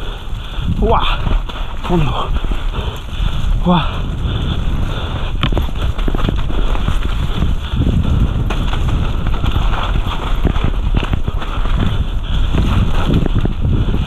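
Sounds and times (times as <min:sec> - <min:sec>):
mountain bike rattling: 0:00.0 - 0:14.0
tyres rumbling on dirt: 0:00.0 - 0:14.0
wind on microphone: 0:00.0 - 0:14.0.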